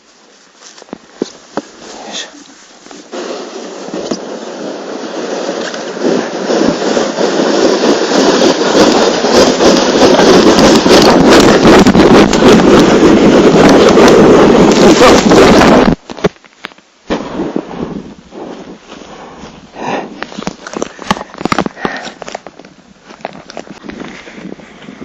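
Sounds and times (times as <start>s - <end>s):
plastic sled scraping over snow: 0.0s - 16.3s, 17.2s - 25.0s.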